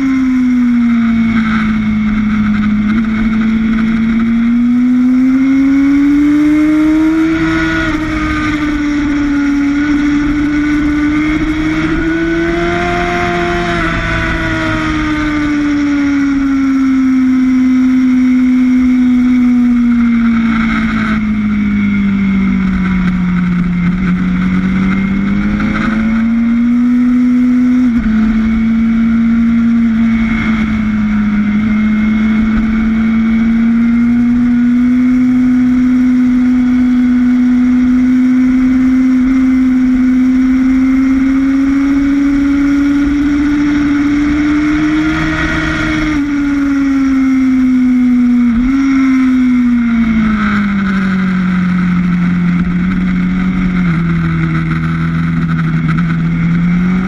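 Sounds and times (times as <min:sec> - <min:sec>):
motorbike engine at speed: 0:00.0 - 0:57.0.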